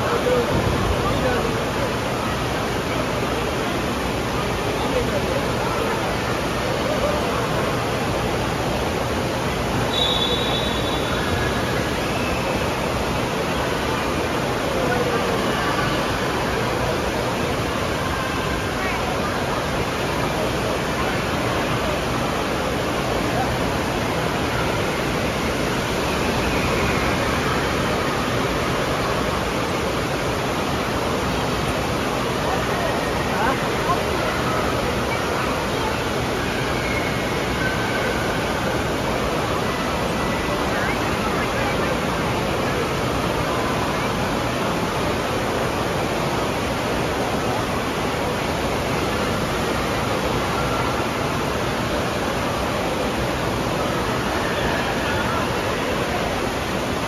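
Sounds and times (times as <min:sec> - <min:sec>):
water rushing from slide tube: 0:00.0 - 0:57.0.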